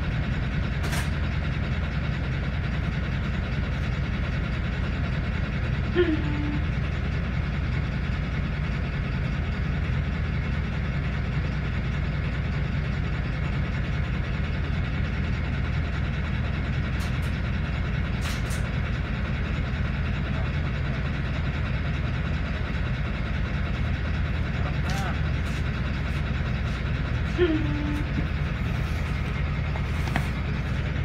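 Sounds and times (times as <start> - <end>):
vehicle rumble: 0.0 - 31.0.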